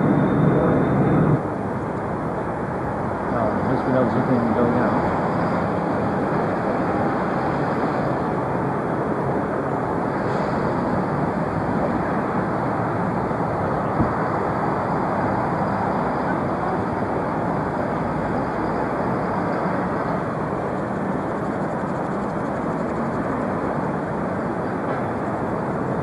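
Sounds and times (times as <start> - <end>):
faint high whine: 0.0 - 26.0
jet engines running: 0.0 - 26.0.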